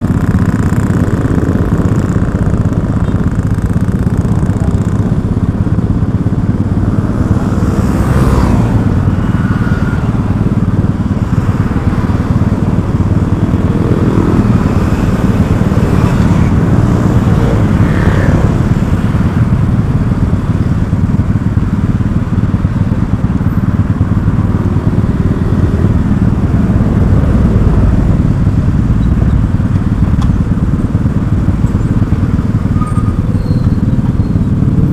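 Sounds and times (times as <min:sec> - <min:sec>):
motorcycle engine rumble: 0:00.0 - 0:34.9.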